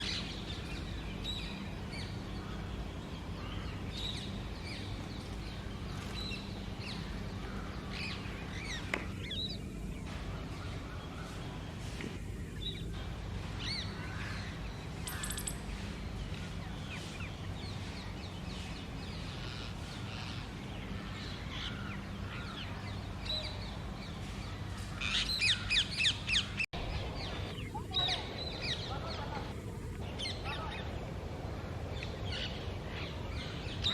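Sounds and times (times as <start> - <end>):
low background rumble: 0.0 - 33.9.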